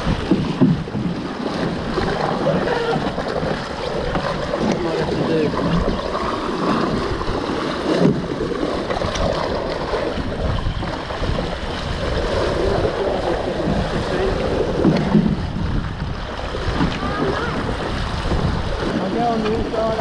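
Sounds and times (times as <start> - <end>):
water rushing and splashing: 0.0 - 20.0
wind noise on microphone: 0.0 - 20.0.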